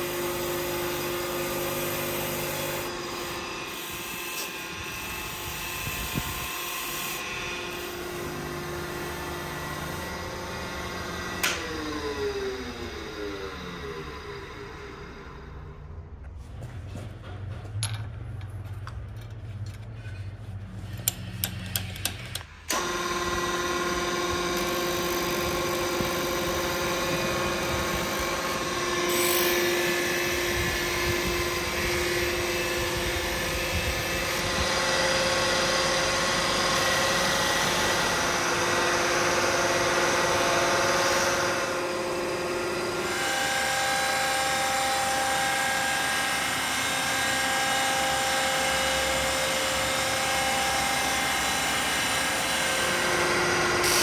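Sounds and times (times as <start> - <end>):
bench grinder motor whining: 0.0 - 15.7, 22.0 - 54.0.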